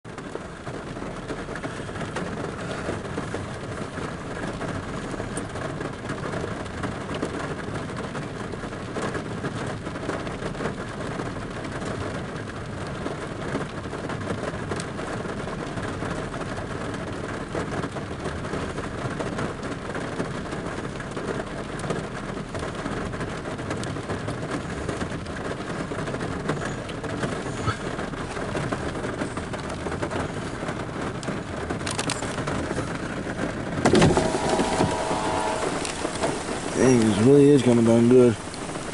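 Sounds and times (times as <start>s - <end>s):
heavy rain on vehicle roof: 0.0s - 38.9s.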